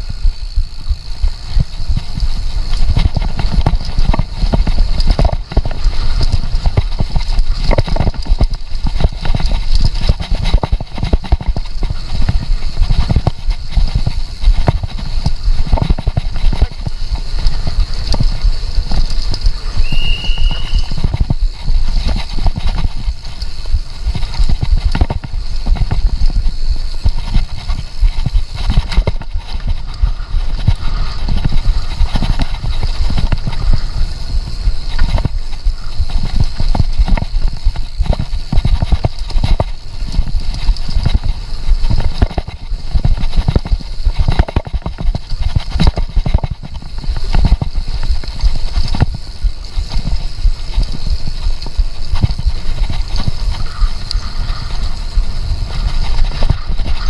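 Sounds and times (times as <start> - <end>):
mountain bike clattering over ground: 0.0 - 57.0.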